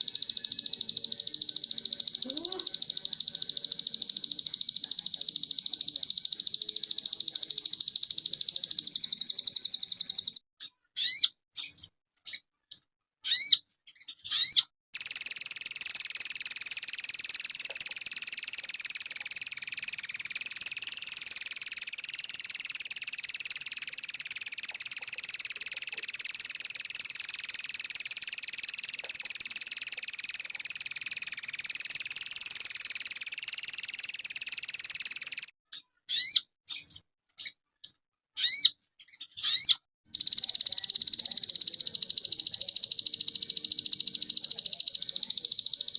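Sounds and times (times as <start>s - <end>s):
high-pitched bird song: 0.0s - 45.9s.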